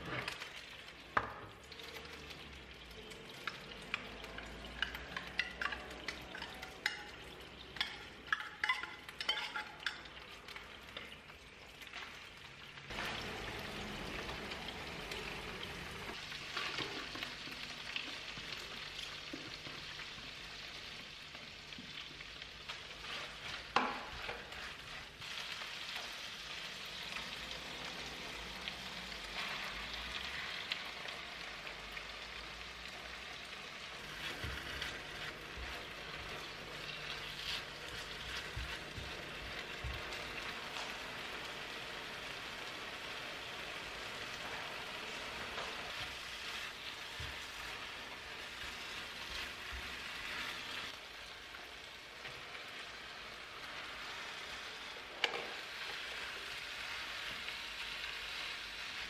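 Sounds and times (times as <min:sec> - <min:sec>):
food sizzling in oil: 0:00.0 - 0:59.0
spatula stirring in pan: 0:01.7 - 0:31.8, 0:32.9 - 0:59.0.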